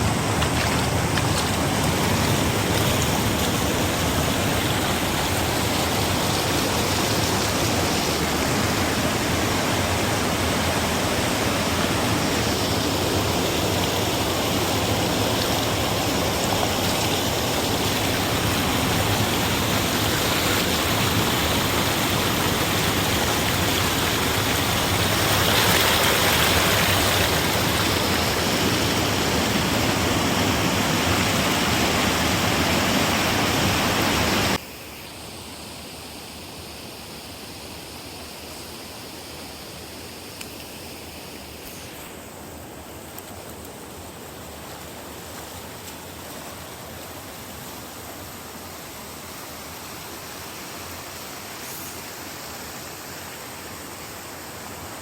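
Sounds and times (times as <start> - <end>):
water rushing: 0.0 - 34.6, 37.5 - 55.0.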